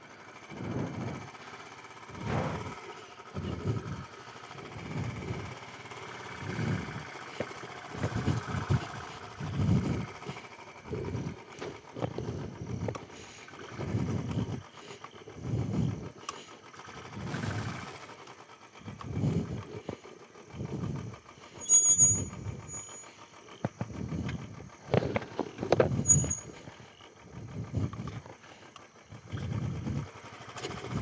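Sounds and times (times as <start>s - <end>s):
motorcycle engine surging: 0.0s - 31.0s.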